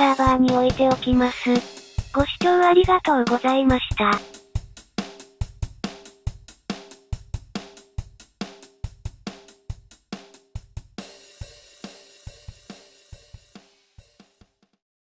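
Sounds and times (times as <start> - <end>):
drum kit playing a steady beat: 0.0 - 14.8.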